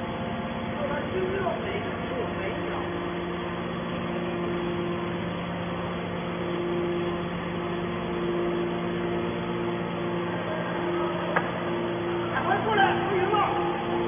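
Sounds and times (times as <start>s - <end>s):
hydraulic machine hum: 0.0s - 14.0s.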